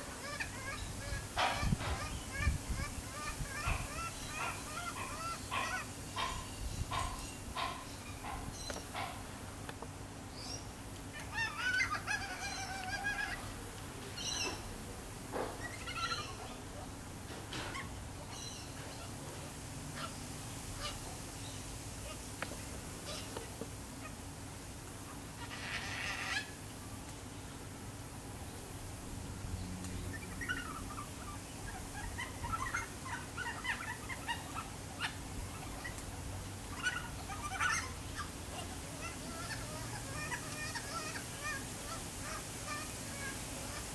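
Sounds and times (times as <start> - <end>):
cockatoo calls: 0.0 - 9.4, 10.4 - 14.7, 15.3 - 21.2, 22.0 - 24.2, 25.0 - 26.6, 30.1 - 43.9.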